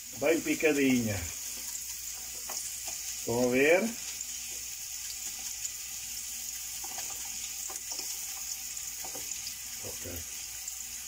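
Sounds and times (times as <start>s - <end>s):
oil sizzling in a pot: 0.0s - 11.0s.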